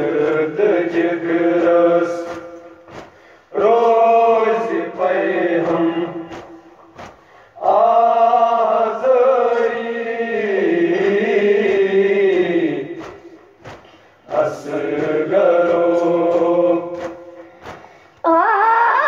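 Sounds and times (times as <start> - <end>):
person chanting a lament: 0.0 - 13.6, 14.3 - 19.0.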